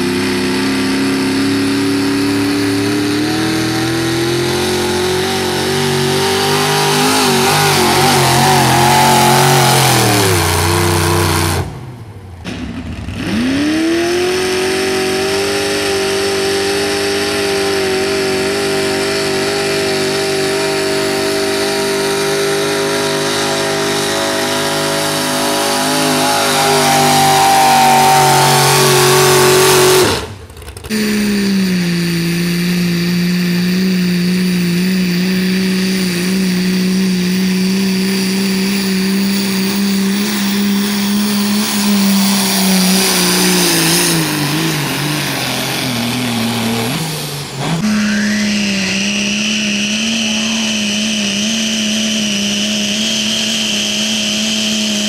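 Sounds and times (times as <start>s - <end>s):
truck engines at full throttle: 0.0s - 55.0s.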